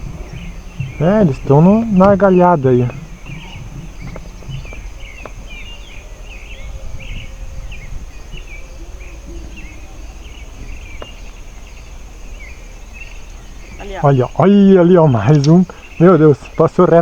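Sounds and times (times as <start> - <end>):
high-pitched insect drone: 0.0 - 16.6
birds singing: 0.0 - 17.0.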